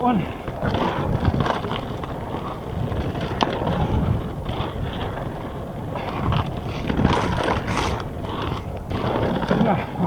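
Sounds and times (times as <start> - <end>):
wind rumbling on microphone: 0.4 - 10.0
bike tyres on dirt trail: 0.5 - 9.7.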